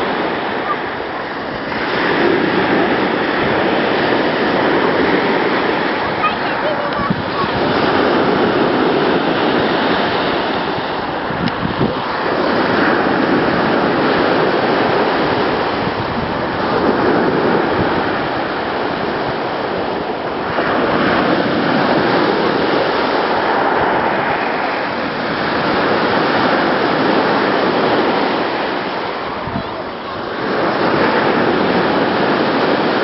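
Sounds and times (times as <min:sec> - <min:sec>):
sea waves washing in: 0:00.0 - 0:33.0.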